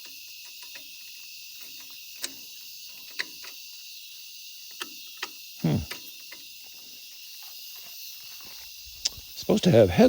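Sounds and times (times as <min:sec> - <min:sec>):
insect chorus: 0:00.0 - 0:10.0.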